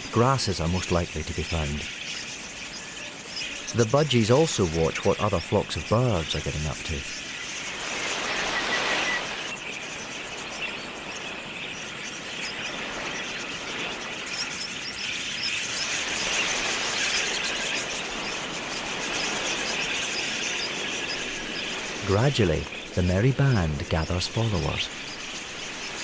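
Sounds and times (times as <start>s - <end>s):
budgerigars chirping: 0.0s - 26.0s.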